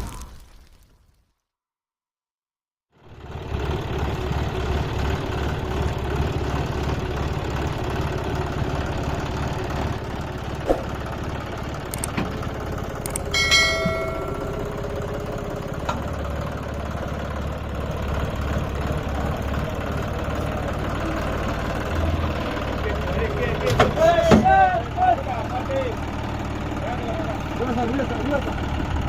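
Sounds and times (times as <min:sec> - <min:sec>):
diesel engine throbbing: 0:03.0 - 0:29.0.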